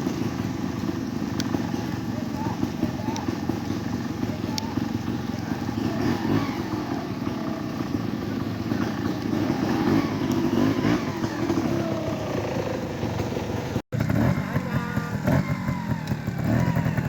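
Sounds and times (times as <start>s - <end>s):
motorcycle engine throttle blips: 0.0s - 17.0s.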